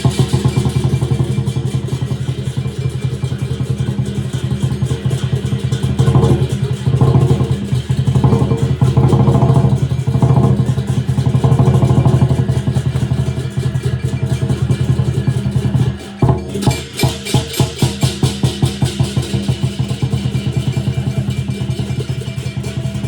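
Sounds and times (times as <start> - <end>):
cymbals crashing: 0.0 - 23.0
drum roll: 0.0 - 23.0.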